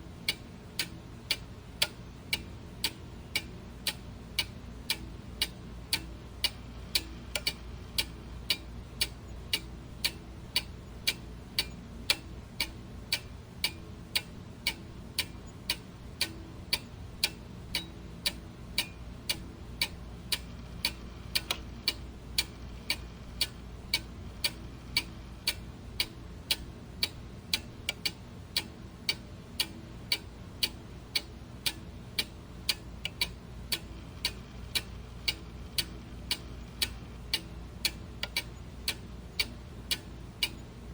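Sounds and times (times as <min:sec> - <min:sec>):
clock ticking: 0:00.3 - 0:40.8.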